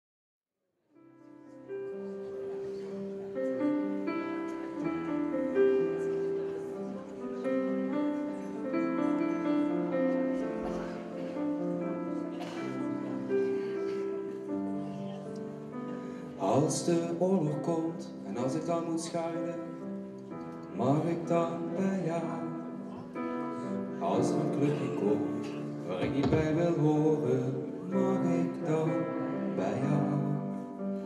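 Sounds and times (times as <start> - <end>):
slow piano ballad: 1.1 - 31.0.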